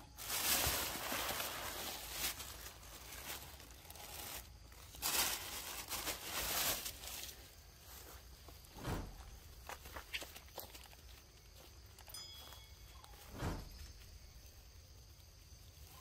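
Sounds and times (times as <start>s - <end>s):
dry crinkling rustle: 0.0s - 14.4s.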